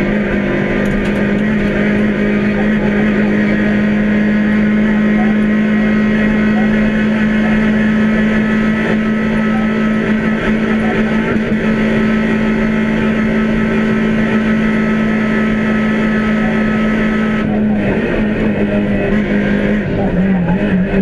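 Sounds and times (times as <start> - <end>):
car engine at high revs: 0.0 - 21.0
road and drivetrain noise: 0.0 - 21.0.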